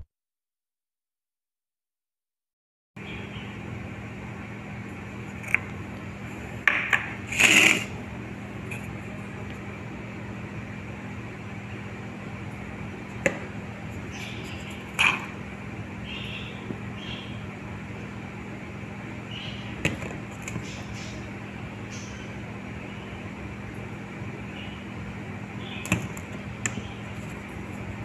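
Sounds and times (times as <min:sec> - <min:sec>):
steady low hum: 0:03.0 - 0:28.0.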